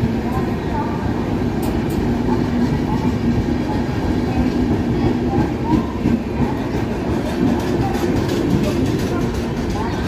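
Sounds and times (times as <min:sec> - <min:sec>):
train wheels rumbling and rattling: 0:00.0 - 0:10.0
clickety-clack over rail joints: 0:01.6 - 0:10.0.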